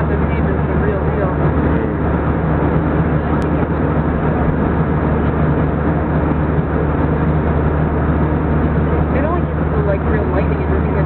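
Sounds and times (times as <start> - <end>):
airliner engines and airflow rush: 0.0 - 11.0
low cabin hum: 0.0 - 11.0.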